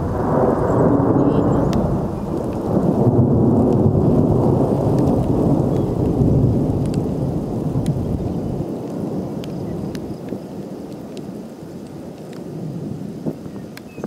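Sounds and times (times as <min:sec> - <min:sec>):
rain: 0:00.0 - 0:14.0
rolling thunder rumble: 0:00.0 - 0:14.0
raindrop ticks: 0:00.2 - 0:14.0.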